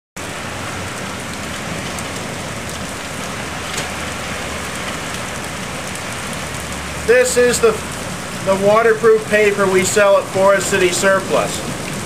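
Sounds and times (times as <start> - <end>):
heavy rain falling: 0.2 - 12.0.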